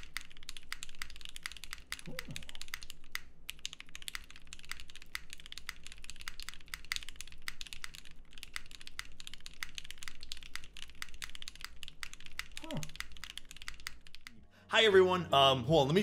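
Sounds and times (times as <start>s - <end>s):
fast typing on mechanical keyboard: 0.0s - 14.4s.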